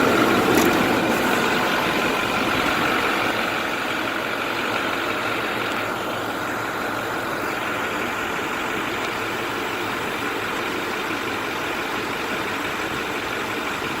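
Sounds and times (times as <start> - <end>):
thin steady whine: 0.0 - 14.0
truck diesel engine idling: 0.0 - 14.0.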